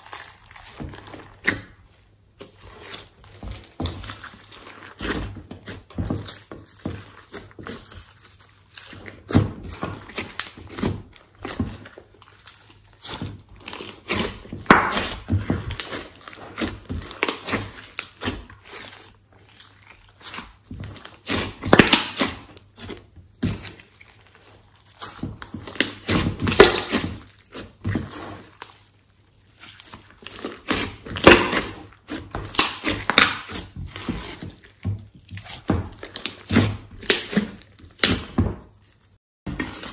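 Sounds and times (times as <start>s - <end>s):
slime squishing: 0.0s - 39.9s.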